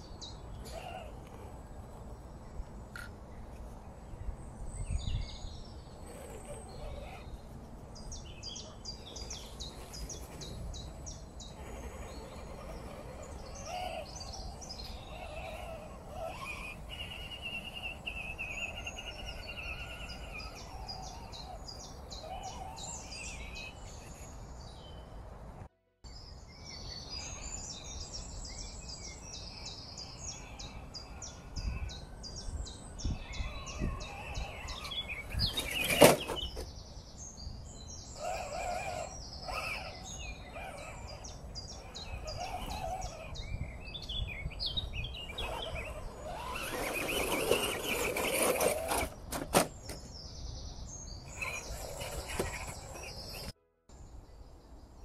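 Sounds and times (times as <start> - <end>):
small birds chirping: 0.0 - 25.2, 26.1 - 55.0.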